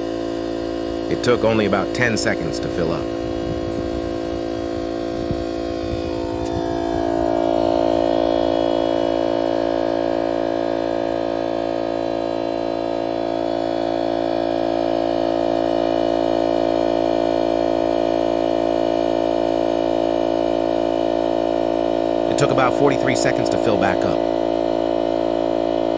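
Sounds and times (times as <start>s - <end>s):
air compressor running: 0.0s - 25.9s.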